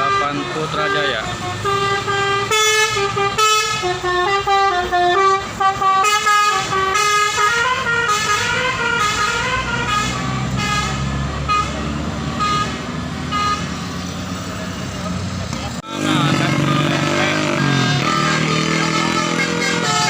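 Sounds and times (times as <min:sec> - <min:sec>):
musical air horn playing a tune: 0:00.0 - 0:13.8, 0:16.3 - 0:20.0
bus engine running: 0:00.0 - 0:20.0.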